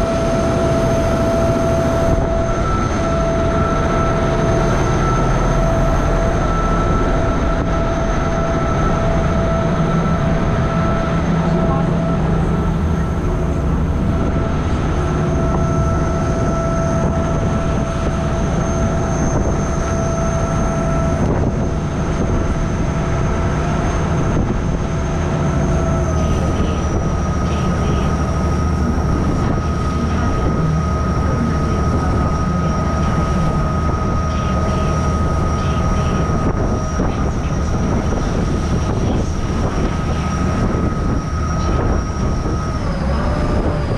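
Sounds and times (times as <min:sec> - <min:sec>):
boat engine rumbling with whine: 0:00.0 - 0:43.9.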